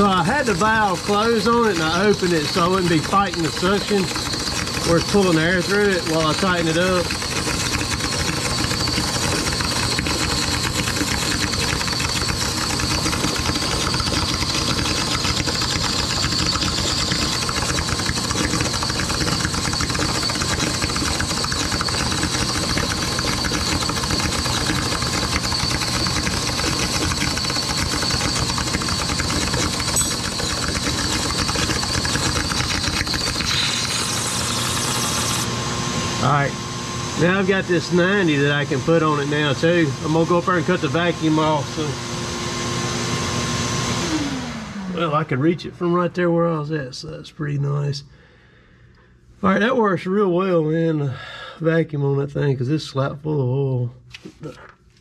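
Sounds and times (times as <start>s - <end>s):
vacuum pump motor running: 0.0s - 46.5s.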